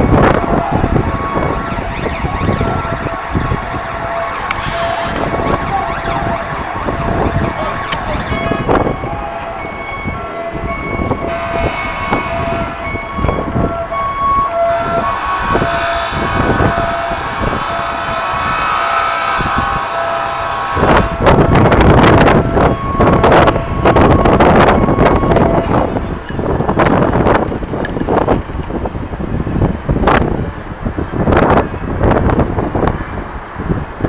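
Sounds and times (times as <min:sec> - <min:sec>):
distant siren: 0:00.0 - 0:27.5
city noise: 0:00.0 - 0:34.0.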